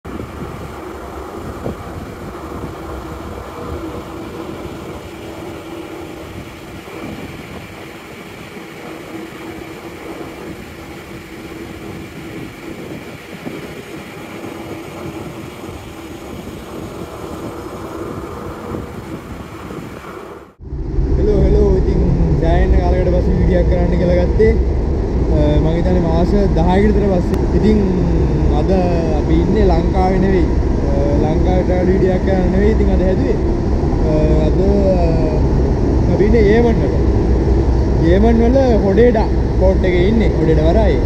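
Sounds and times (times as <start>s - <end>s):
churning wake water: 0.0s - 41.0s
ship machinery droning: 0.0s - 41.0s.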